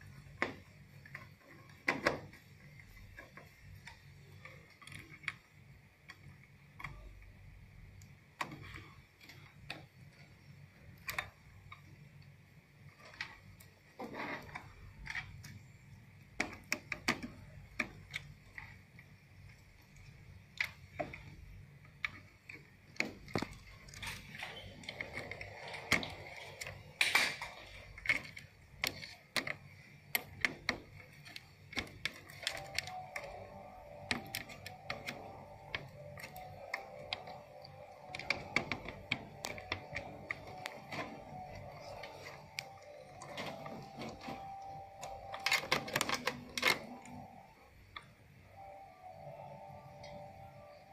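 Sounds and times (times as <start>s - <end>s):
cables rustling: 0.0s - 50.9s
plastic connectors clicking: 0.1s - 12.0s, 12.9s - 48.8s.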